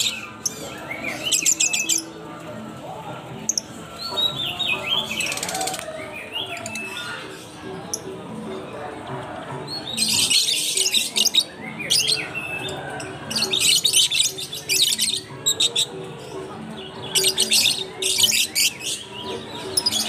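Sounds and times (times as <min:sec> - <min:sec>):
lovebirds chattering and squawking: 0:00.0 - 0:20.0.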